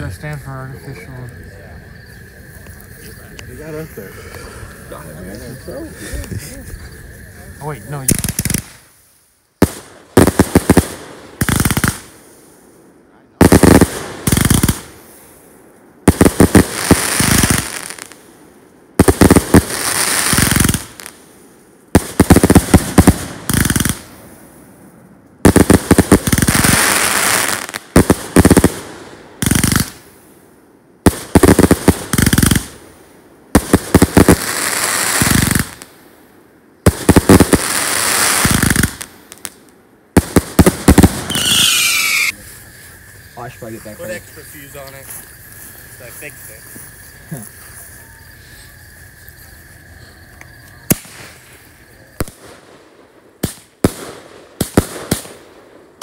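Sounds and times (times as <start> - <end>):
fireworks bangs and crackling: 0.0 - 24.8, 25.4 - 56.0.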